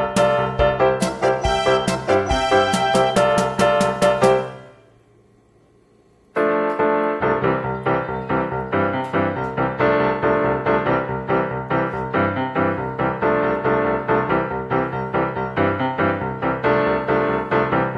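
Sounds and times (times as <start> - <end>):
keyboard music with bass line: 0.0 - 4.9, 6.4 - 17.9.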